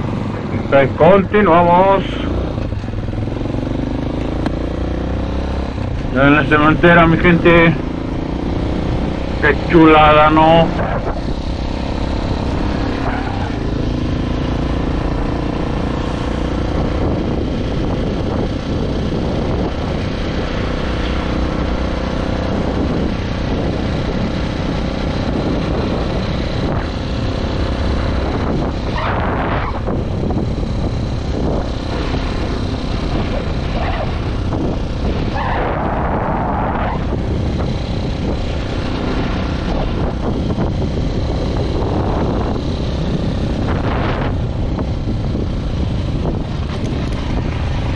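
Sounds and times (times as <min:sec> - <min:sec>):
motorcycle engine running: 0:00.0 - 0:47.9
road and wind noise: 0:00.0 - 0:47.9.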